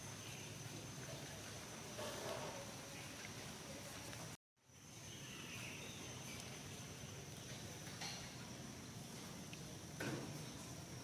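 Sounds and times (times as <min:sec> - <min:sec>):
insect drone: 0:00.0 - 0:03.8, 0:04.6 - 0:11.0.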